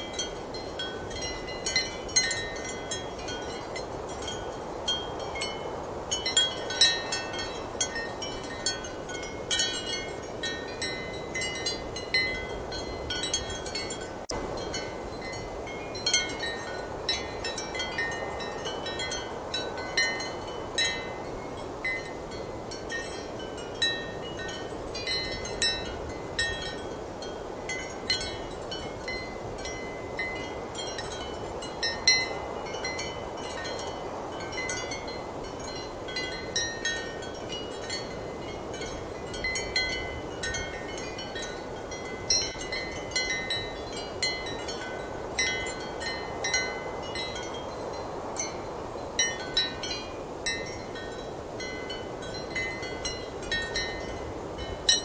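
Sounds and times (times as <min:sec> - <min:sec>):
ceramic wind chimes clinking: 0:00.0 - 0:55.0
rushing wind: 0:00.0 - 0:55.0.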